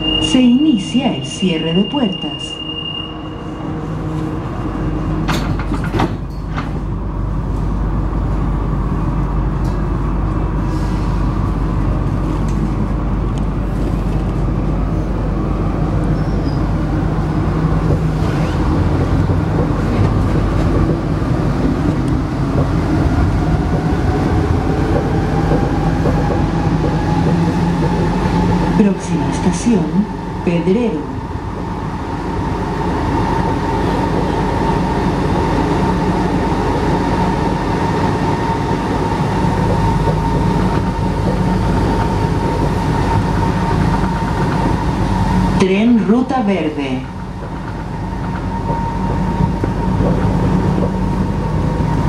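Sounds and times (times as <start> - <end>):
metro train running rumble: 0.0 - 52.0.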